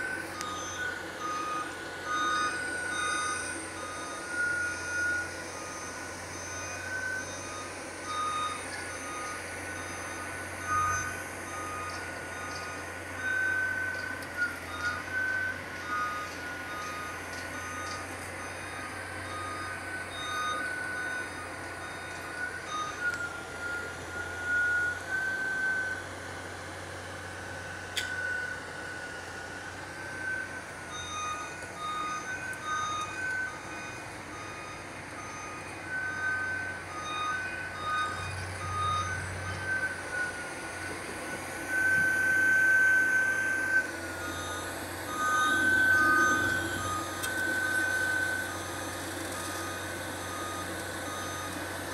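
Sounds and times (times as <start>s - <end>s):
low machine hum: 0.0s - 51.9s
machinery warning beepers: 0.0s - 51.9s.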